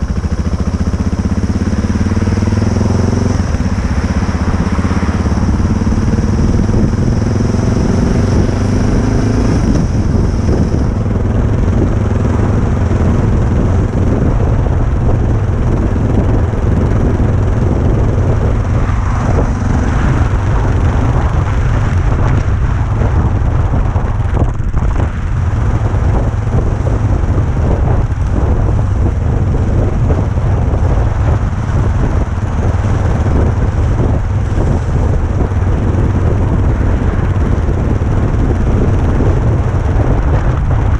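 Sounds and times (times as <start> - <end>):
motorcycle engine accelerating: 0.0 - 40.9
wind buffeting microphone: 0.0 - 40.9.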